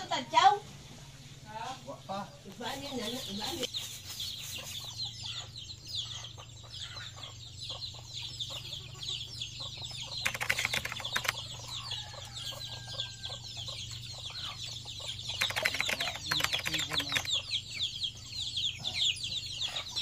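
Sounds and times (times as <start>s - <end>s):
chickens clucking and peeping: 0.0s - 20.0s.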